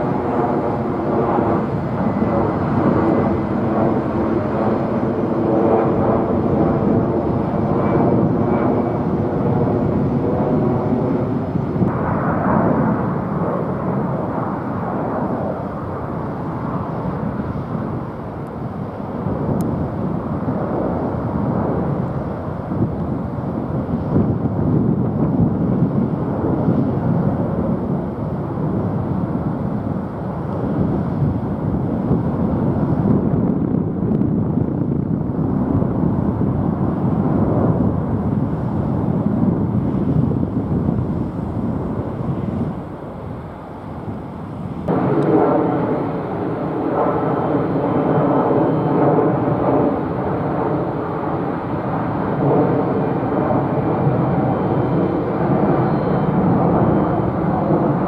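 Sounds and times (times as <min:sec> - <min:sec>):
buzzing jet engine drone: 0:00.0 - 0:58.0
jet engines roaring: 0:00.0 - 0:58.0.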